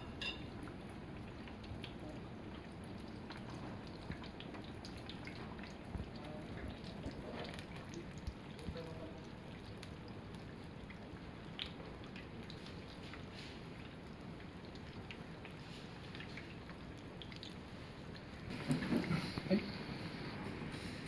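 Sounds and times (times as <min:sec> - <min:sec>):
food deep-frying in hot oil: 0:00.0 - 0:21.0.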